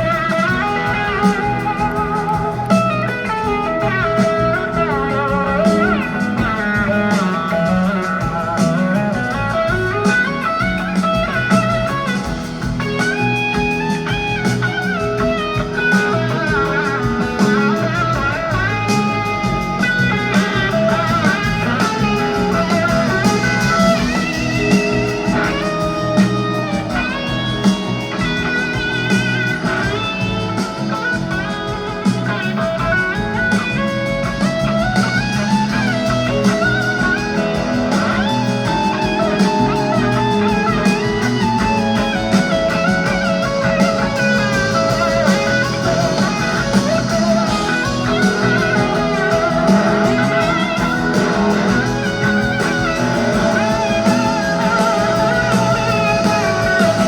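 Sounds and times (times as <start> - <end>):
blues-rock band playing: 0.0 - 57.0
electric guitar solo: 0.0 - 57.0.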